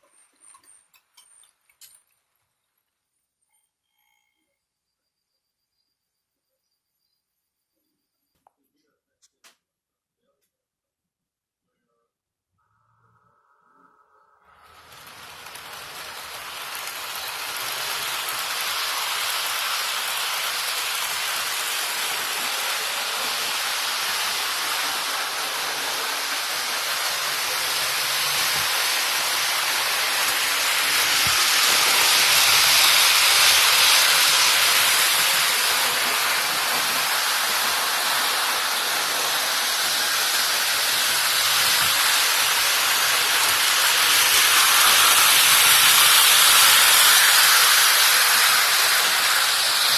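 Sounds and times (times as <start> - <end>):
model train wheels and motors: 0.0 - 9.6, 13.2 - 49.9.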